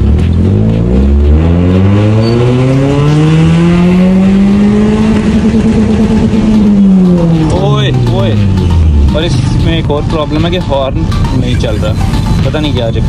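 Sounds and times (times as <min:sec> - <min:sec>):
car engine accelerating: 0:00.0 - 0:11.3.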